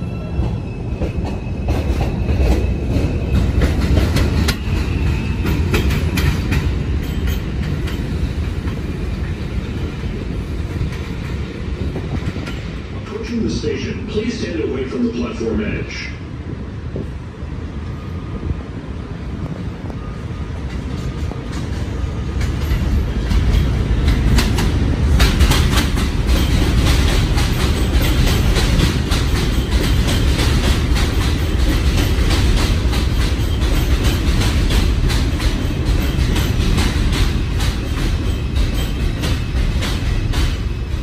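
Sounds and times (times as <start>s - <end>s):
train wheels rumbling on steel: 0.0s - 13.9s, 19.4s - 41.0s
rail-joint clicks: 0.4s - 13.4s, 20.6s - 41.0s.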